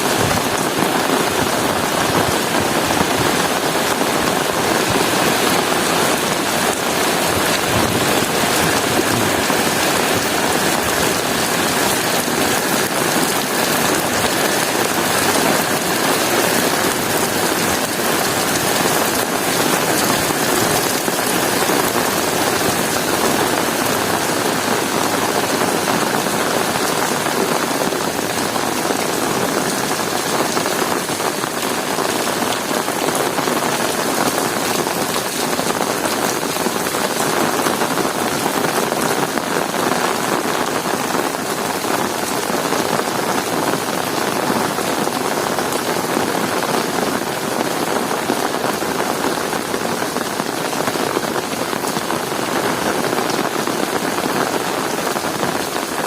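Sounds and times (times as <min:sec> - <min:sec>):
heavy rain on hard surfaces: 0:00.0 - 0:56.0.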